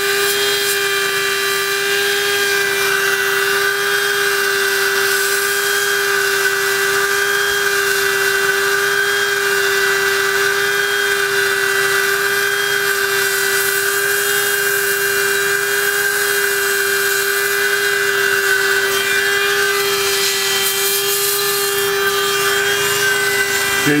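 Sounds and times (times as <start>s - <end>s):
blower motor whine: 0.0s - 24.0s.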